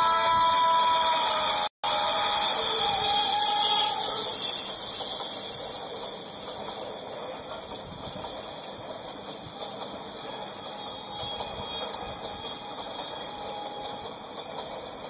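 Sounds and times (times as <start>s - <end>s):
train wheels rattling on rails: 0.0s - 15.0s.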